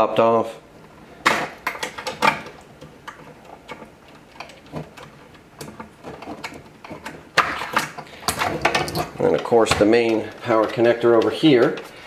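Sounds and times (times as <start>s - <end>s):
cable connectors clicking: 1.3s - 12.0s.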